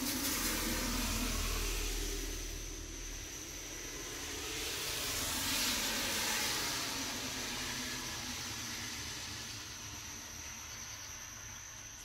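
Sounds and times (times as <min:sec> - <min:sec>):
car driving past: 0:00.0 - 0:09.7
high insect trill: 0:00.0 - 0:12.0.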